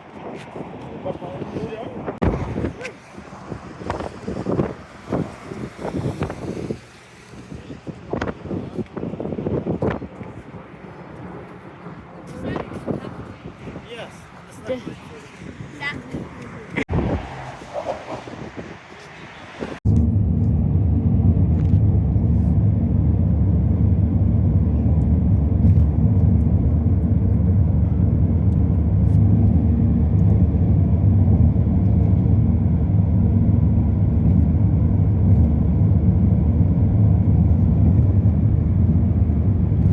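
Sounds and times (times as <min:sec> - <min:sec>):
car engine and road noise: 0:01.7 - 0:39.9.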